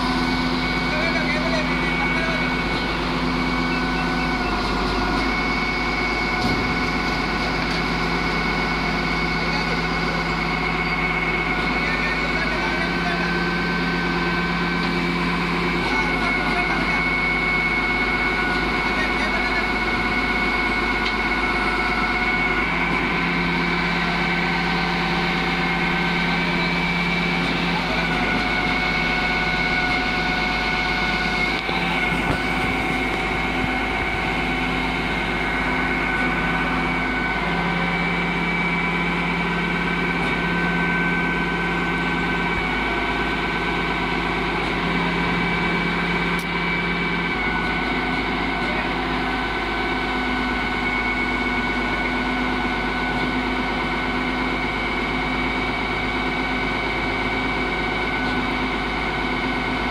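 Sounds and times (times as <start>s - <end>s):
high whine: 0.0s - 53.2s
crane engine running: 0.0s - 59.9s.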